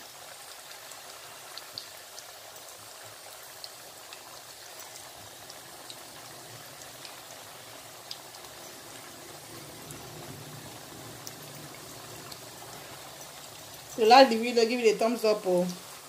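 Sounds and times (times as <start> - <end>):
dough sizzling in hot oil: 0.0 - 16.0.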